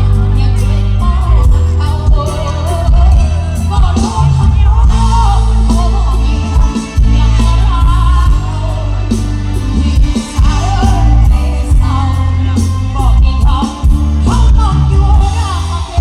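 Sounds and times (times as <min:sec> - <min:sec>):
heavy steady bass line: 0:00.0 - 0:16.0
loud music with singing voice: 0:00.0 - 0:16.0.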